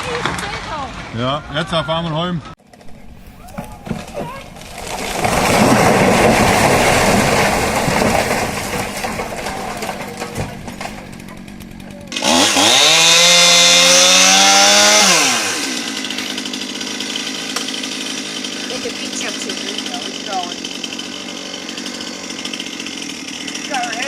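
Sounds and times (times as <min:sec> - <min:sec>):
chainsaw revving: 0:02.8 - 0:24.0.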